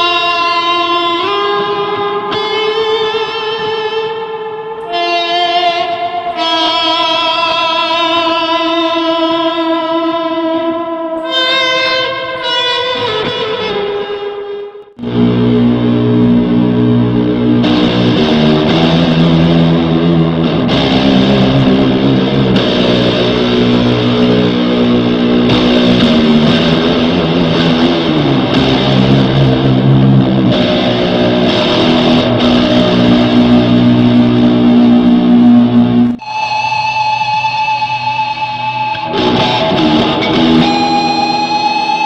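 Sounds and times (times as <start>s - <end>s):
fuzz electric guitar riffs: 0.0s - 42.0s.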